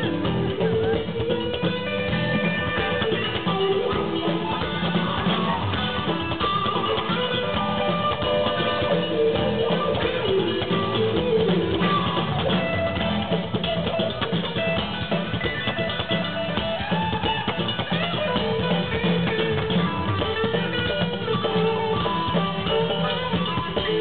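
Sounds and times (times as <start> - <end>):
drum kit: 0.0 - 24.0
electric guitars: 0.0 - 24.0
lead guitar bending pitch: 0.0 - 24.0.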